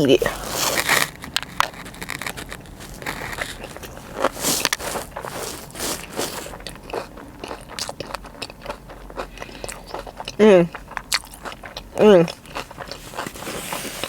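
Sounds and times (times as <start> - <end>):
chewing and crunching food: 0.0 - 14.0.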